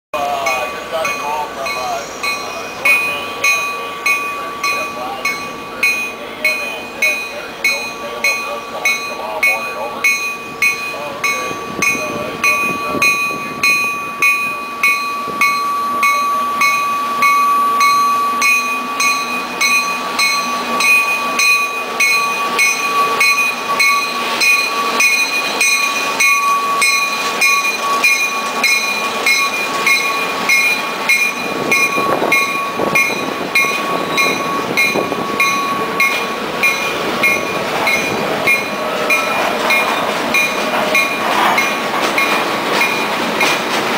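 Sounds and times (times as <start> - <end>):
bell ringing: 0.2 - 43.6
diesel locomotive passing: 0.2 - 43.9
train wheels clattering over rail joints: 0.4 - 43.9.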